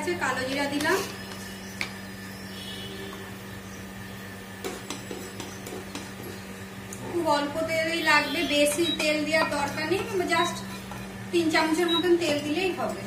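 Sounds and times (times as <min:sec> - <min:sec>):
cooktop hum: 0:00.0 - 0:13.0.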